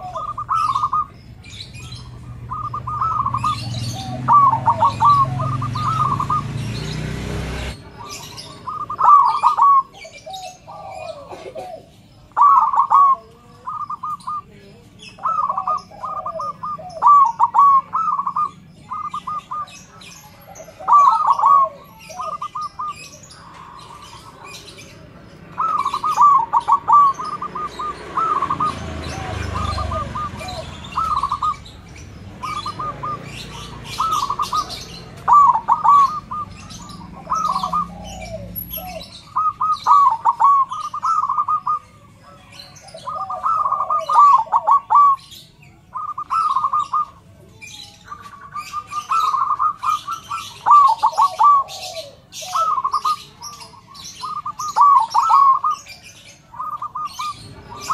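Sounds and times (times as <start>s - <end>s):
dove cooing: 0.0s - 57.9s.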